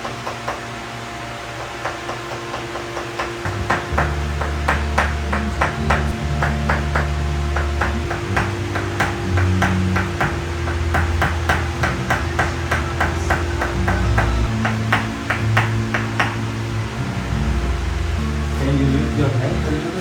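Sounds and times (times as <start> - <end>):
low held bass notes: 0.0 - 20.0
rhythmic knocking: 0.0 - 20.0.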